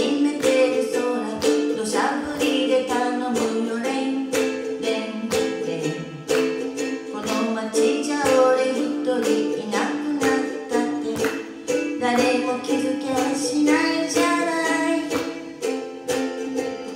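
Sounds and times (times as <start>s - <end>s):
ukulele strumming chords: 0.0s - 16.9s.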